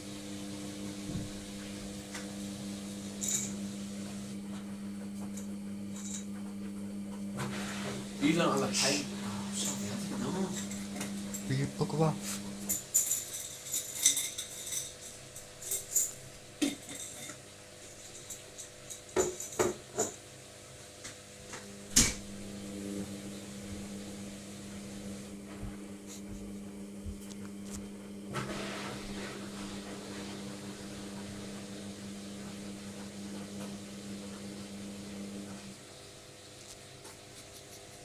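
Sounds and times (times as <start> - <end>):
washing machine humming: 0.0 - 38.0.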